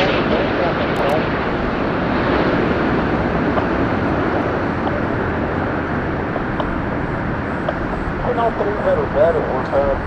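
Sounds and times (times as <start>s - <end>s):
airliner jet engines rushing: 0.0s - 10.0s.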